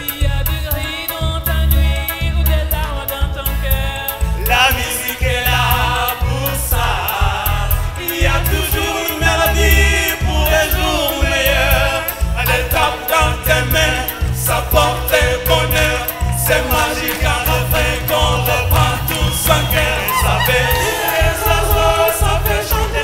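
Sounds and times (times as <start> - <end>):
bass beat: 0.0 - 23.0
choir and soloists singing pop: 0.0 - 23.0
high percussion ticks: 0.0 - 23.0.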